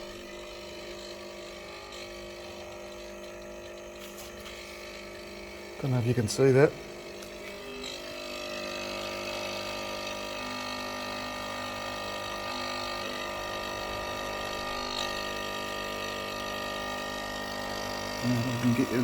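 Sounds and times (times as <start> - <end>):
coffee machine pump buzzing: 0.0 - 19.0.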